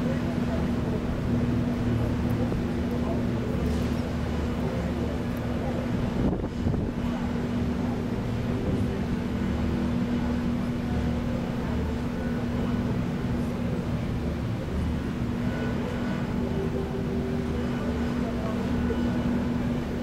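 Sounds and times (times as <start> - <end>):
ship engine droning hum: 0.0 - 20.0.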